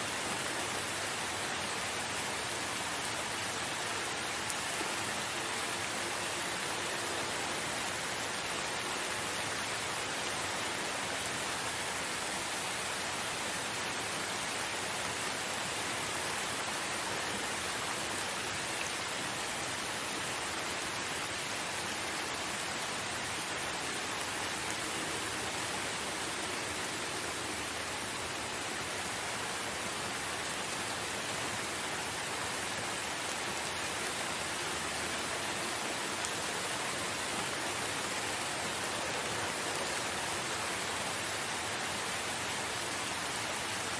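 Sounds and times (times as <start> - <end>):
rain falling in forest: 0.0 - 43.9.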